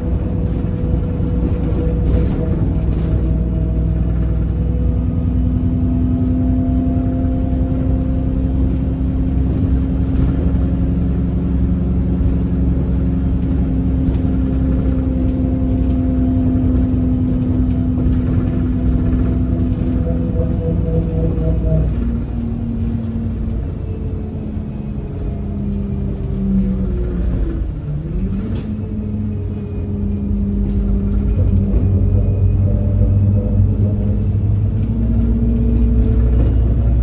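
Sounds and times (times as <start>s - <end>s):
bus engine droning: 0.0s - 37.0s
low rumble: 0.0s - 37.0s.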